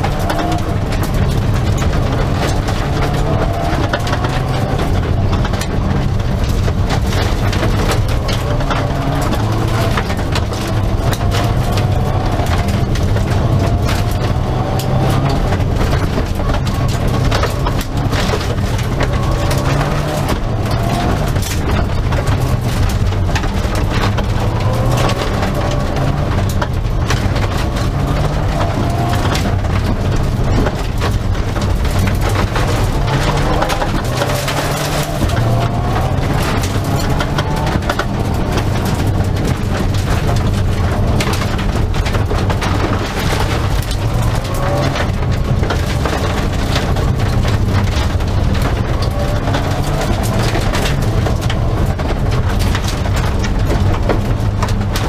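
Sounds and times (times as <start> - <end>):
gravel clattering underneath car: 0.0 - 55.0
rally car engine revving: 0.0 - 55.0.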